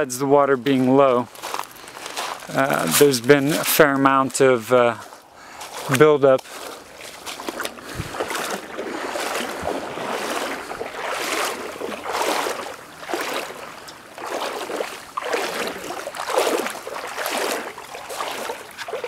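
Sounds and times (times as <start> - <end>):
rustling footsteps: 0.5 - 19.0.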